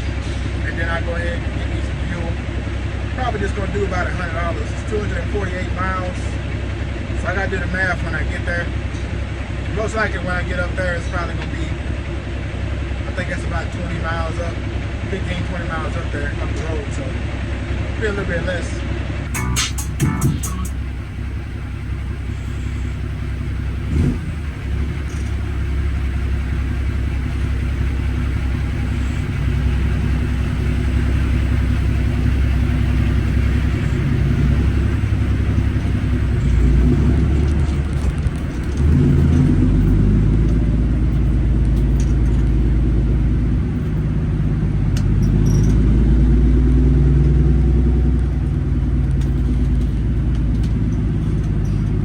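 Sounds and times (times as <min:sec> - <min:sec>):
diesel truck engine rumble: 0:00.0 - 0:52.0.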